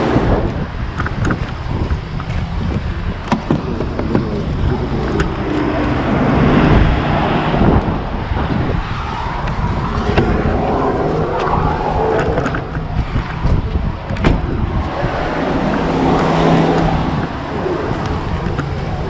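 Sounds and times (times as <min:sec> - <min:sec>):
engine and road rumble in cabin: 0:00.0 - 0:19.0.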